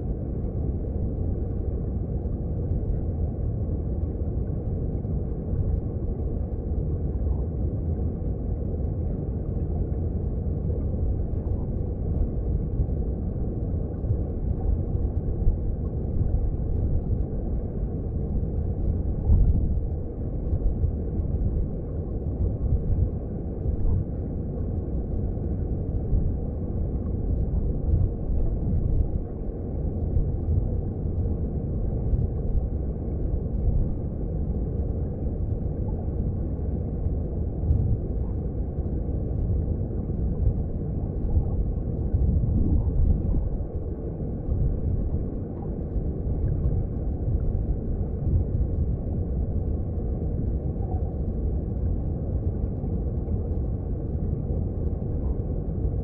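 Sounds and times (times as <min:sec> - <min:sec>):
underwater stream rumble: 0:00.0 - 0:56.0.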